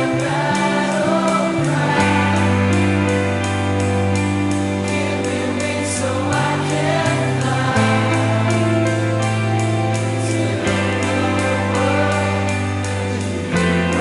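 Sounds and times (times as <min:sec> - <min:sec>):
bass line: 0:00.0 - 0:14.0
voices singing together: 0:00.0 - 0:14.0.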